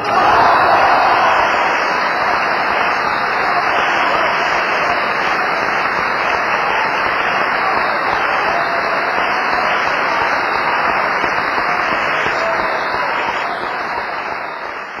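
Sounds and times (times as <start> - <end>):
audience applauding: 0.0 - 15.0
voices calling out in crowd: 0.0 - 15.0.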